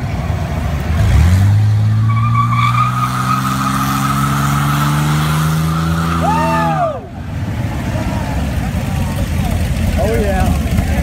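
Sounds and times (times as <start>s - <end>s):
truck engine revving high: 0.8s - 11.0s
tires squealing: 1.0s - 10.2s.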